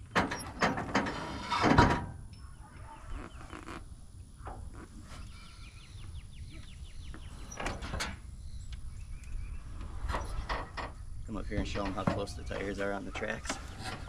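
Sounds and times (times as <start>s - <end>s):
clunks and creaks from wheels: 0.0s - 5.8s, 6.6s - 8.3s, 9.2s - 14.0s.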